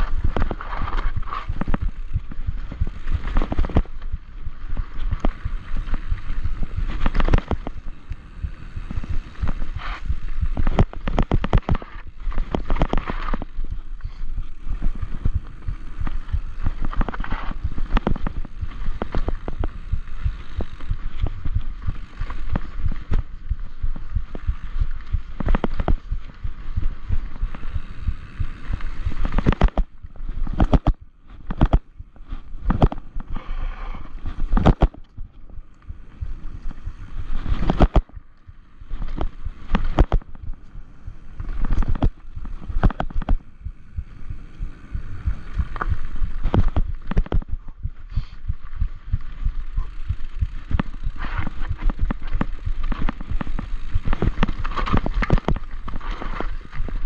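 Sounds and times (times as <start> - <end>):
bike rattling over rocks: 0.0 - 47.7, 48.6 - 57.0.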